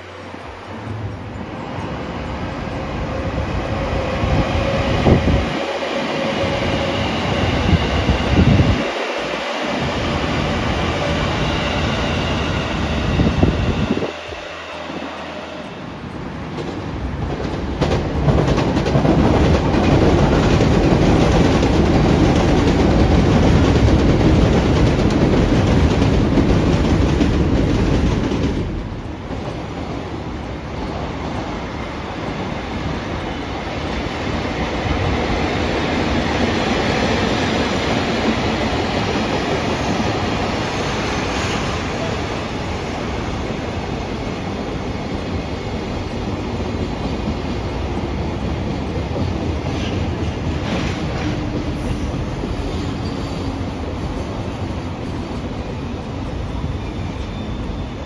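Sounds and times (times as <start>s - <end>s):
train passing close: 0.0s - 58.0s.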